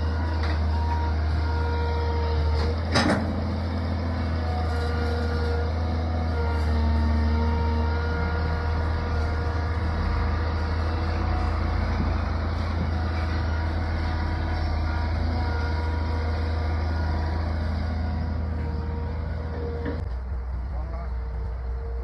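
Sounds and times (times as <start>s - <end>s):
heavy machinery engine droning: 0.0s - 22.0s.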